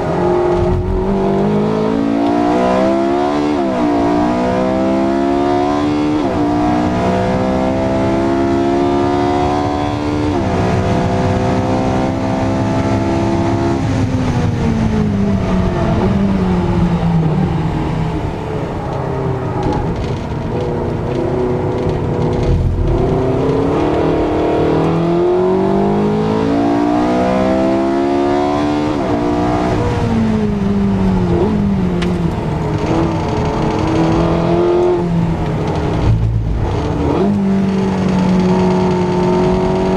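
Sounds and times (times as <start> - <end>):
sports car engine at full throttle: 0.0 - 39.9.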